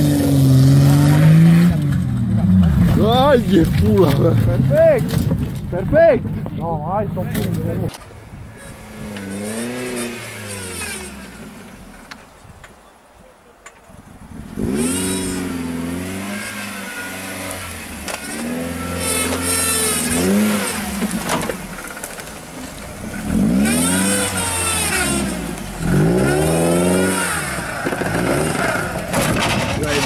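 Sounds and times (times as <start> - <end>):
car engine revving: 0.0 - 12.2, 14.4 - 30.0.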